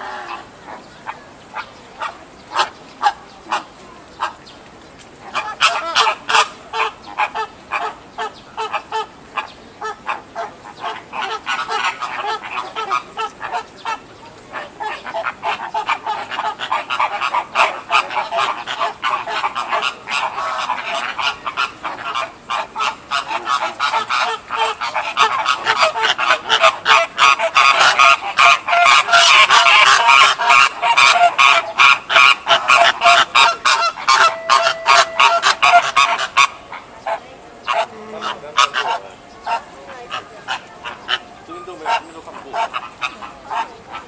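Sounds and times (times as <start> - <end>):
flamingos honking: 0.0 - 4.4, 5.3 - 44.0.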